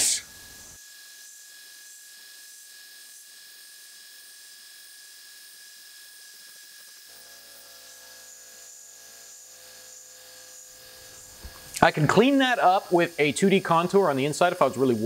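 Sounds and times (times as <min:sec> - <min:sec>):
milling machine whine: 0:00.0 - 0:15.0.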